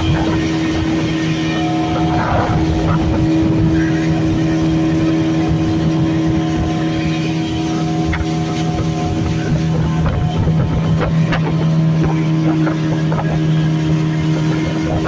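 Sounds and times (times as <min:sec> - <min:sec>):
outboard motor running: 0:00.0 - 0:15.0
water rushing: 0:00.0 - 0:15.0.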